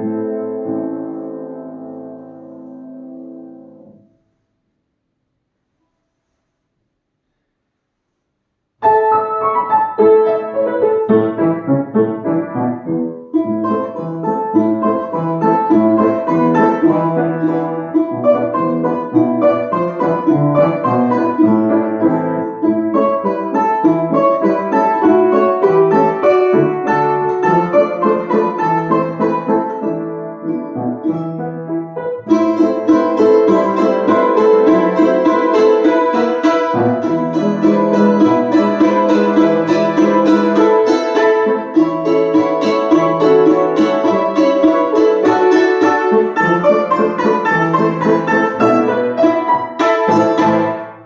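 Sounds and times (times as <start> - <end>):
solo keyboard piece: 0.0 - 4.1, 8.8 - 51.0.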